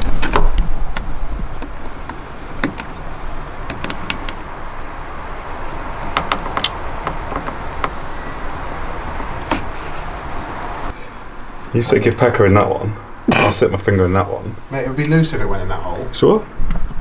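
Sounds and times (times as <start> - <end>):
steady hiss: 0.0 - 16.6.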